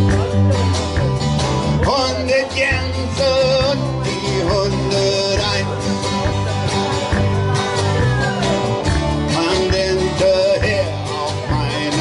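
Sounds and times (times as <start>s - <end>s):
bass guitar: 0.0s - 12.0s
drum kit beat: 0.0s - 12.0s
guitars strummed and picked: 0.0s - 12.0s.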